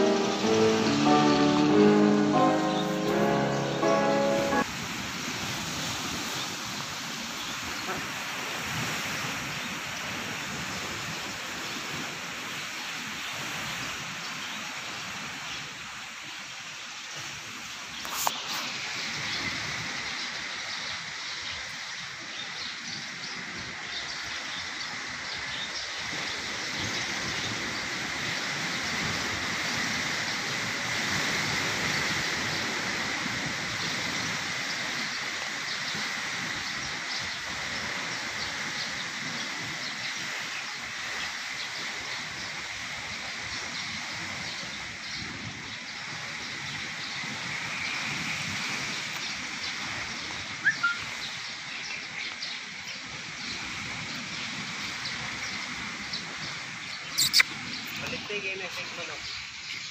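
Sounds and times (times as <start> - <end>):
wind and surf noise: 0.0 - 59.9.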